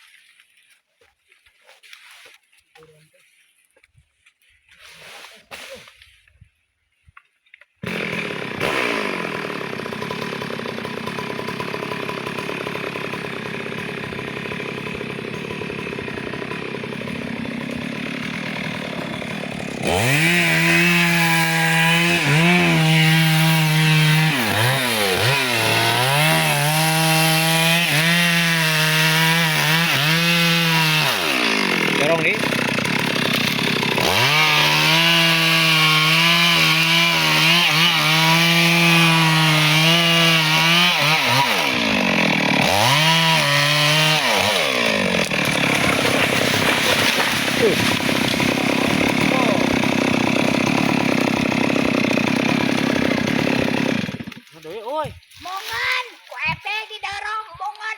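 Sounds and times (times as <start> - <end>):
chainsaw cutting wood: 7.1 - 57.9.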